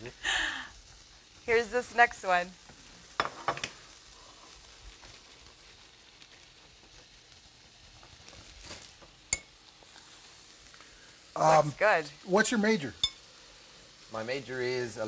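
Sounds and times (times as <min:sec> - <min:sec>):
sandwiches sizzling in a pan: 0:00.0 - 0:15.0.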